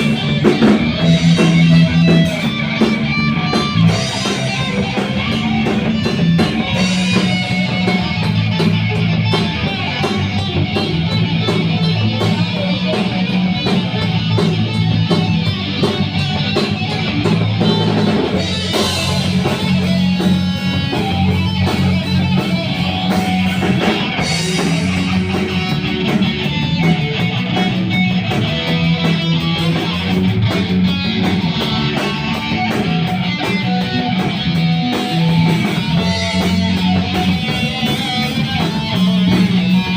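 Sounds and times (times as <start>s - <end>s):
bass: 0.0s - 39.9s
drum kit: 0.0s - 39.9s
electric guitar: 0.0s - 39.9s.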